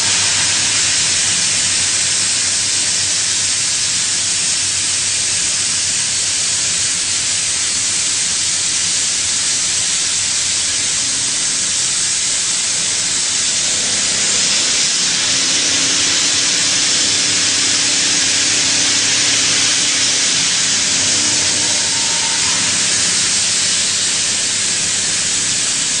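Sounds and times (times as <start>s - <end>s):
milling cutter hiss: 0.0s - 26.0s.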